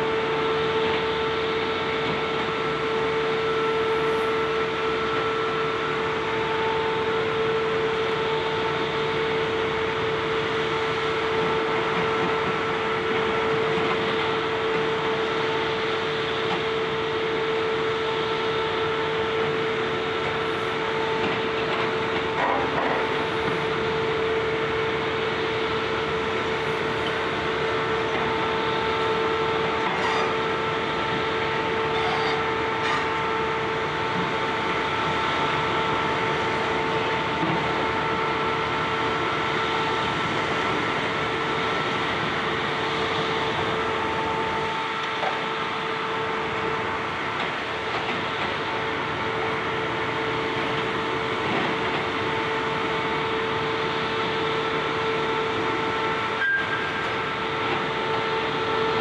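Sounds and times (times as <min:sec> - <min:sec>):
excavator engine and hydraulics whine: 0:00.0 - 0:59.0.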